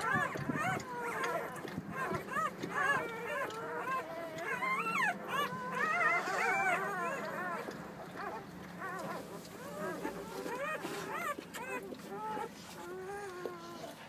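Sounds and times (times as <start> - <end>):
puppies squeaking and whimpering: 0.0 - 14.0.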